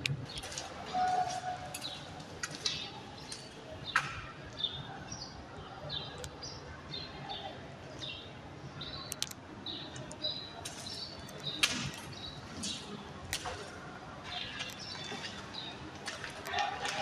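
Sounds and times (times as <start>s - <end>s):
small birds chirping: 1.8s - 16.5s.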